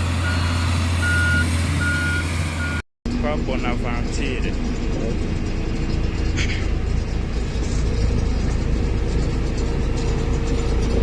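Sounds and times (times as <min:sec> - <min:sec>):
heavy machine engine rumbling: 0:00.0 - 0:11.0.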